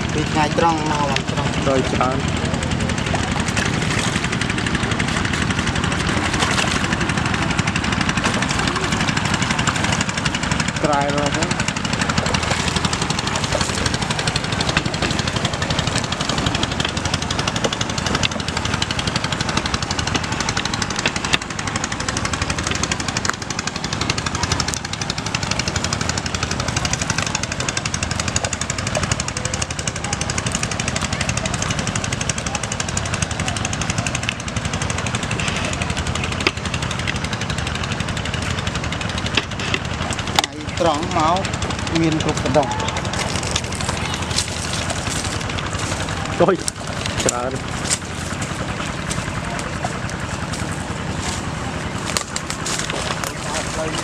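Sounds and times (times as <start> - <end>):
small engine rattling: 0.0 - 54.0.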